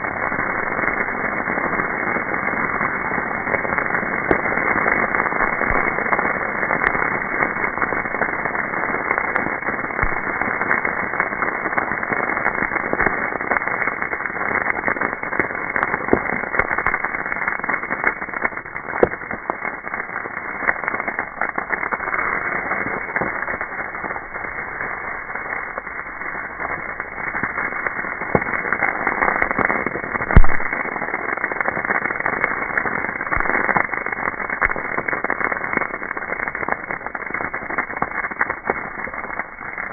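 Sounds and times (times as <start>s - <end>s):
fire pops: 0.0s - 39.9s.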